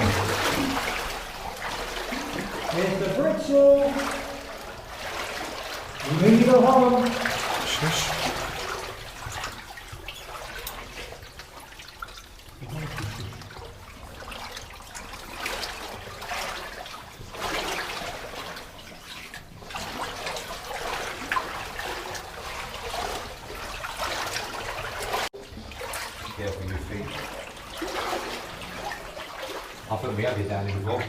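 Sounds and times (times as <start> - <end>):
people wading through water: 0.0 - 31.0.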